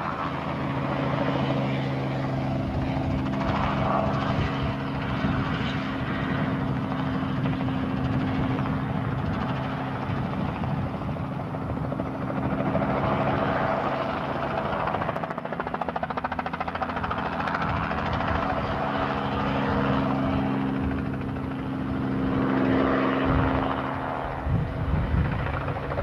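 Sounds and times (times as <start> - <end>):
helicopter rotor beating: 0.0 - 26.0.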